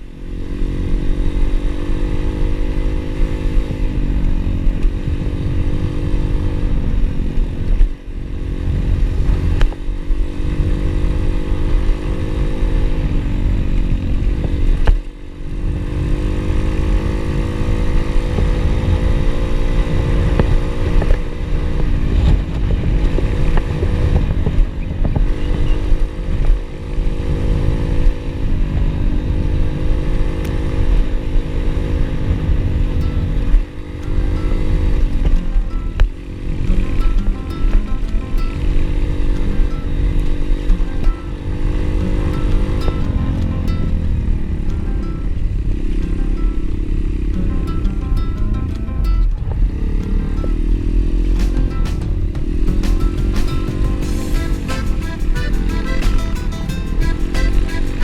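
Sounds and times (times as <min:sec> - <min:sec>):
pit bike engine running: 0:00.0 - 0:58.0.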